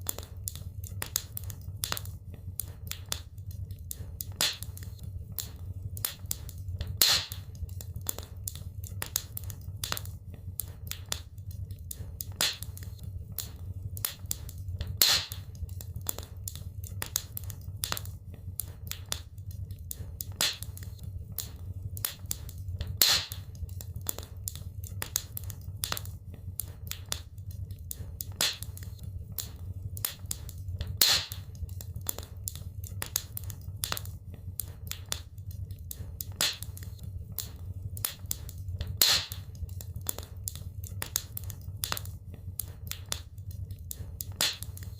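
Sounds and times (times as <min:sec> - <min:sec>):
wood fire crackling in fireplace: 0:00.0 - 0:44.9.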